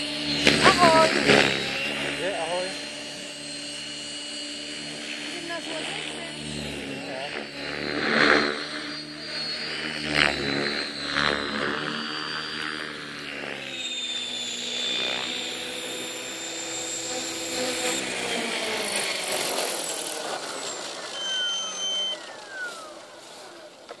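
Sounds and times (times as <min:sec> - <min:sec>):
model helicopter rotor and motor: 0:00.0 - 0:24.0.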